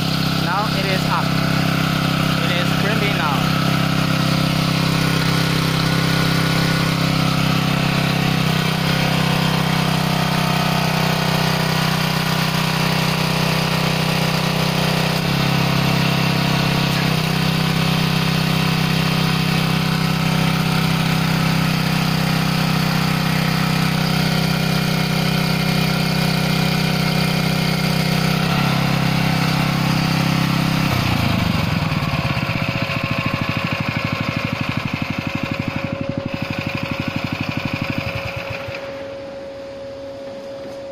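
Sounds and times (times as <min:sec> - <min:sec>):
small gasoline engine running: 0:00.0 - 0:39.2.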